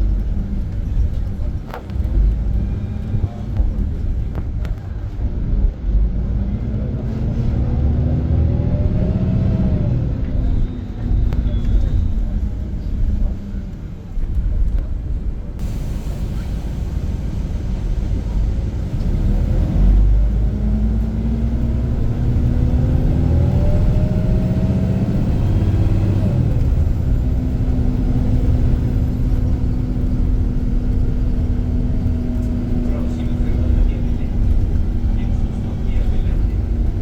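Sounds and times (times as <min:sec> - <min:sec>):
bus diesel engine accelerating: 0:00.0 - 0:37.0.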